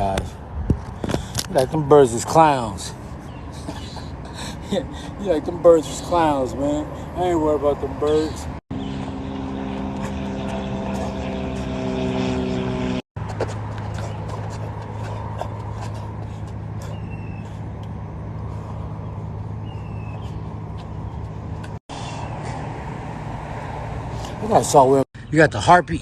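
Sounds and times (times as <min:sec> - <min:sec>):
road traffic hum: 0:00.0 - 0:25.9
steady pitched engine tones: 0:01.6 - 0:25.0.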